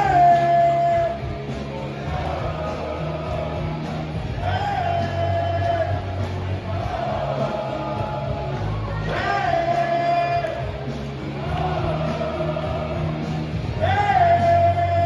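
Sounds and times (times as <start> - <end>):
crowd shouts and whoops: 0.0 - 15.0
crowd singing along: 0.0 - 15.0
party song with heavy bass: 0.0 - 15.0.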